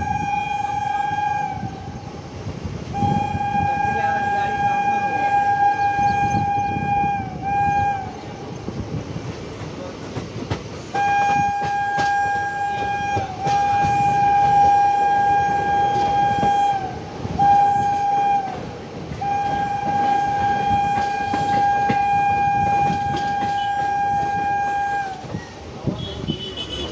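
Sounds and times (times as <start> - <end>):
train horn blasts: 0.0 - 2.1, 2.8 - 8.4, 10.9 - 26.9
moving train rumble: 0.0 - 26.9.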